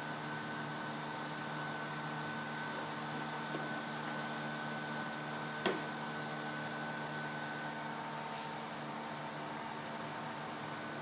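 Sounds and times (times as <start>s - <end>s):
electrical equipment whirring hum: 0.0s - 11.0s.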